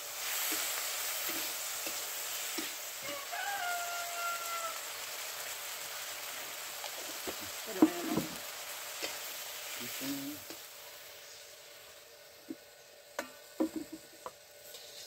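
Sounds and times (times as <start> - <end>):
spatula stirring in a wok: 0.0 - 15.0
vegetables sizzling in a wok: 0.0 - 15.0.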